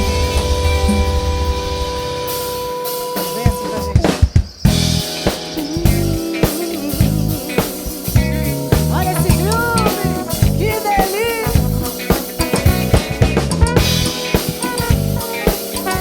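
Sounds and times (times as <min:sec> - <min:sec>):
band playing samba-funk groove: 0:00.0 - 0:16.0.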